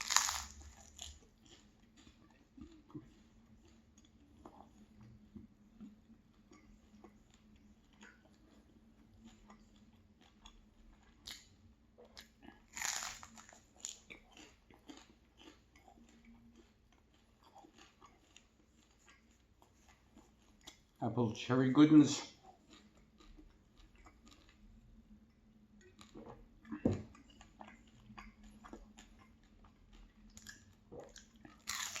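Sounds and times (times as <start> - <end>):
person chewing crunchy pastry: 0.0 - 21.0, 22.2 - 32.0.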